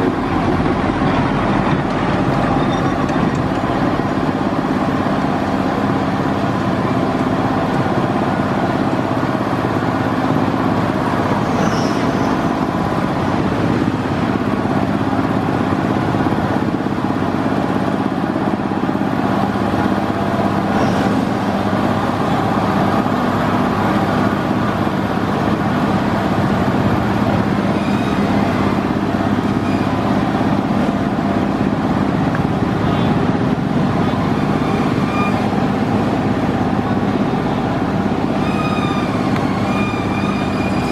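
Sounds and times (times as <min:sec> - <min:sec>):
engine drone: 0:00.0 - 0:40.9.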